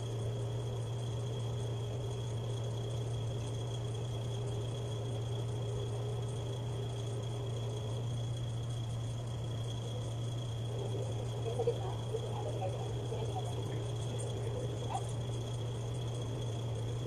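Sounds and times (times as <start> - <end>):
faint high whine: 0.0 - 17.0
steady low hum: 0.0 - 17.0.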